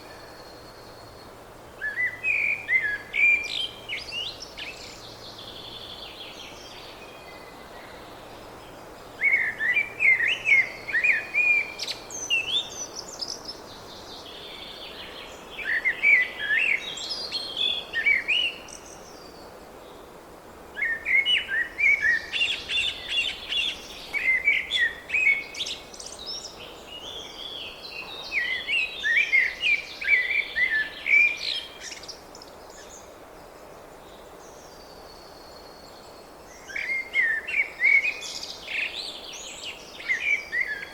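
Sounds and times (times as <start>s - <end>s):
songbird chirping: 0.0s - 40.9s
steady background hiss: 0.0s - 40.9s.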